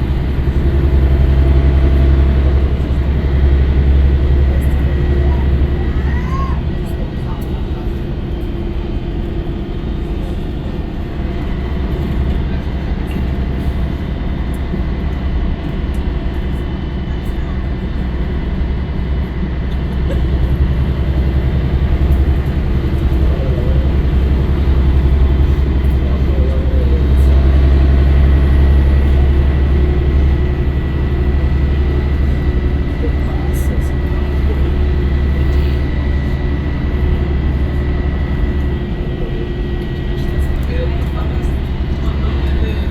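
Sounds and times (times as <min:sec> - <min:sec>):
bus diesel engine droning: 0:00.0 - 0:42.9.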